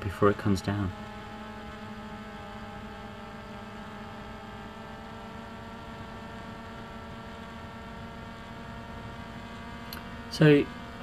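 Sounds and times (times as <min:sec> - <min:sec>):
steady multi-tone hum: 0:00.0 - 0:11.0.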